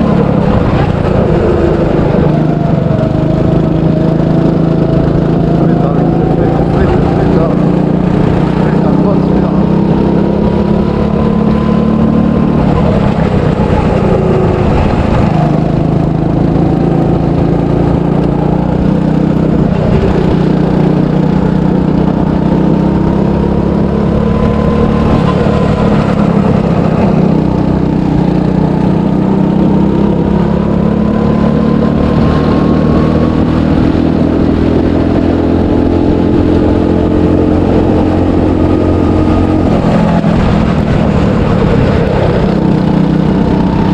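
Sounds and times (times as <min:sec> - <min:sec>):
go-kart engine accelerating: 0:00.0 - 0:43.9.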